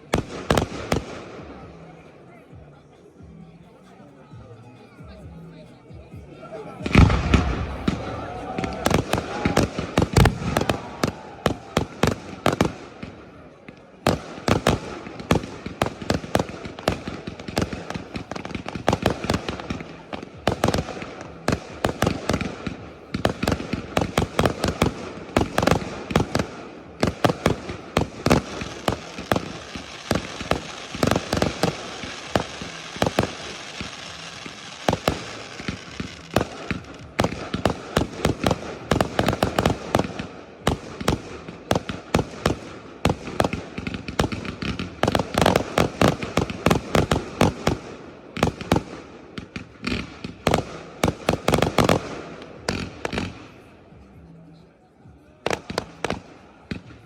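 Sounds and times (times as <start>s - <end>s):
fireworks crackle: 0.0s - 2.7s, 6.8s - 54.2s, 55.1s - 57.0s
fireworks bursts and bangs: 0.0s - 57.0s.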